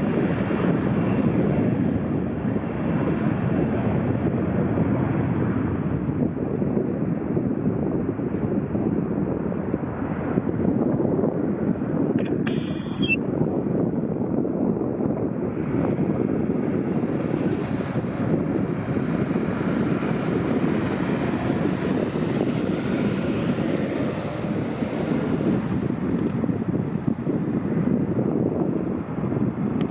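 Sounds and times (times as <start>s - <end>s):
jet engines rumbling: 0.0s - 29.9s
wind buffeting microphone: 0.0s - 29.9s.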